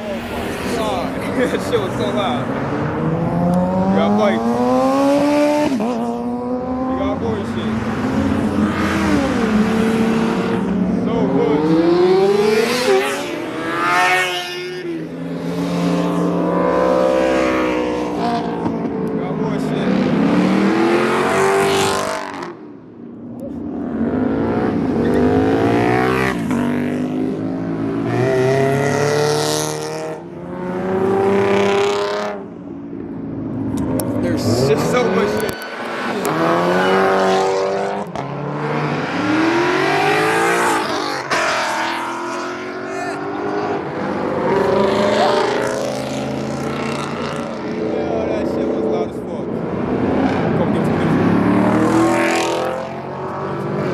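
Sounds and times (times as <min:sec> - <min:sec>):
cars revving past: 0:00.0 - 0:22.9, 0:23.6 - 0:53.9.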